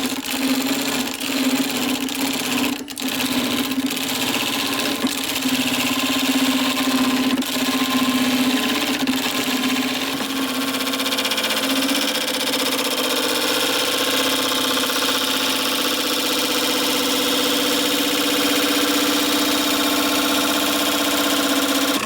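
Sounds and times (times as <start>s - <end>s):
lathe motor hum: 0.0s - 22.0s.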